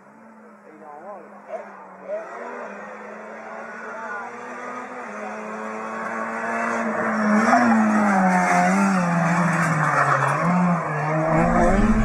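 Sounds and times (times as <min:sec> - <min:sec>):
rally car engine revving: 0:02.2 - 0:12.0.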